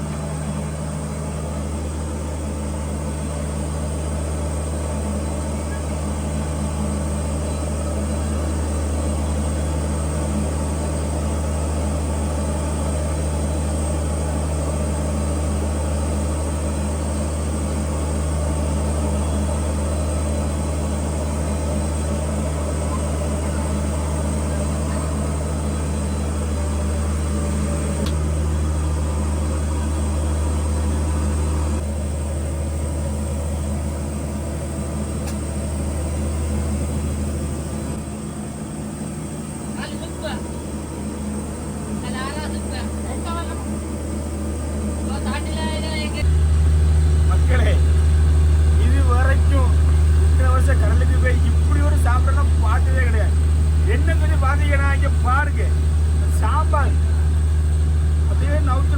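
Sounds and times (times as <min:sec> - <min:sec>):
boat engine running: 0:00.0 - 0:58.9.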